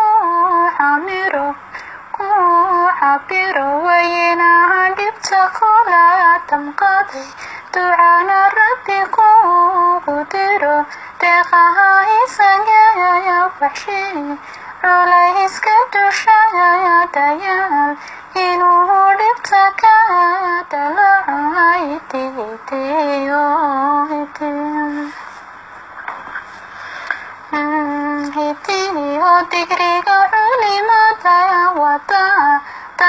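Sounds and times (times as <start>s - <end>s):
woman singing in a high voice: 0.0s - 25.2s, 27.5s - 33.0s.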